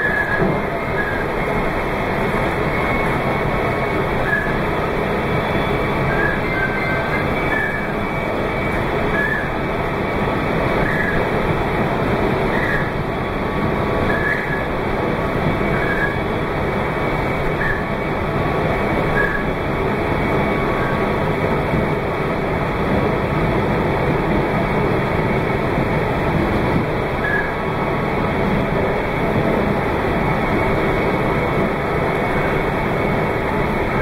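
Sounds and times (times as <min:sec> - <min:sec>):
electric train rumbling: 0:00.0 - 0:34.0.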